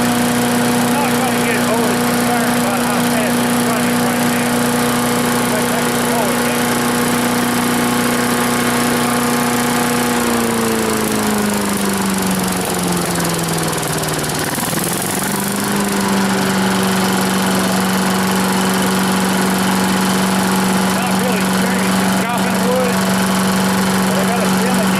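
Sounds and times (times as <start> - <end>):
wood chipper engine running: 0.0 - 24.9.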